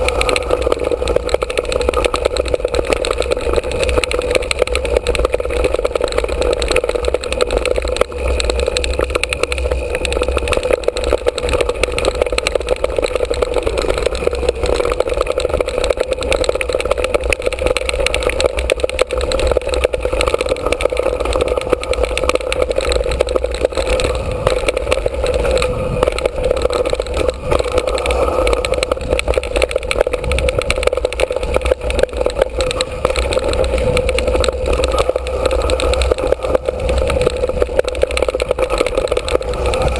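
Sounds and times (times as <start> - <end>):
bike chain and frame rattle: 0.0 - 39.9
tyres on dirt and stones: 0.0 - 39.9
wind: 0.0 - 39.9.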